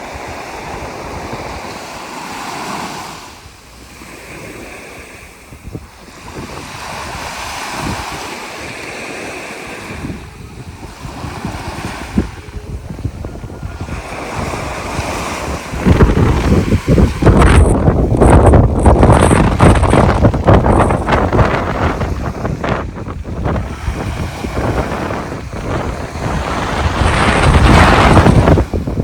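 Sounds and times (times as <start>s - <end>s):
sea waves breaking: 0.0s - 29.0s
wind buffeting microphone: 0.0s - 29.0s.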